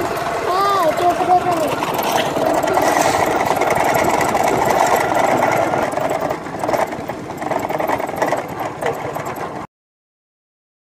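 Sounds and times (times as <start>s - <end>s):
motorcycle engine putter: 0.0s - 9.7s.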